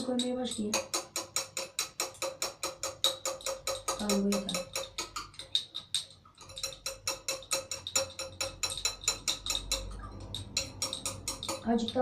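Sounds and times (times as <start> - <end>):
spoon clinking against bowl: 0.0 - 12.0.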